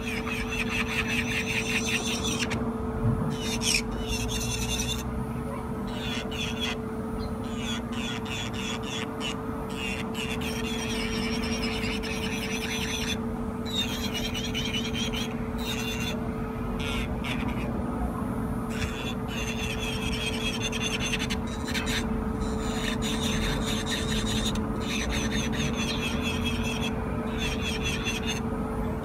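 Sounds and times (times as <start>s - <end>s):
electric nail drill whine: 0.0s - 2.6s, 3.3s - 5.1s, 5.8s - 17.7s, 18.7s - 28.4s
scratchy filing on nail: 0.0s - 2.6s, 3.3s - 5.0s, 5.9s - 6.8s, 7.4s - 16.2s, 18.7s - 28.4s.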